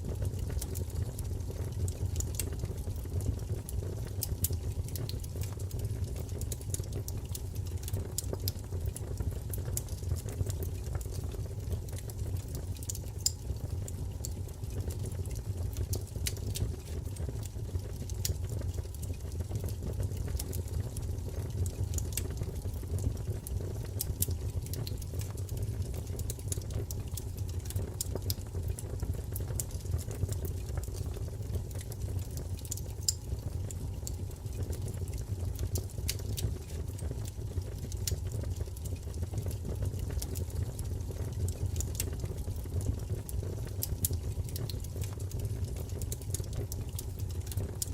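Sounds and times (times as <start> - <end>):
low rumble of flames: 0.0 - 47.9
fire pops and snaps: 0.1 - 47.9.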